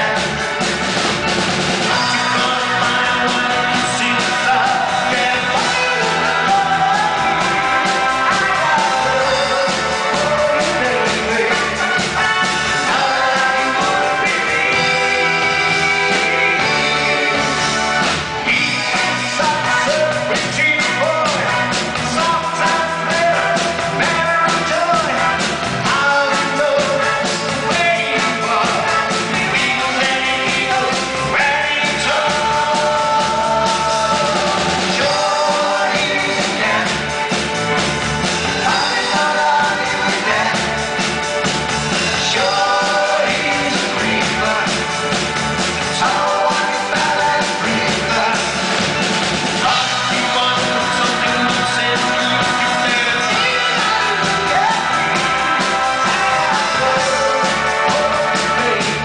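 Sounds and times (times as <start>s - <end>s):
man singing: 0.0s - 0.8s, 1.8s - 37.8s, 38.4s - 49.0s, 49.6s - 59.0s
live pop-rock band: 0.0s - 59.0s.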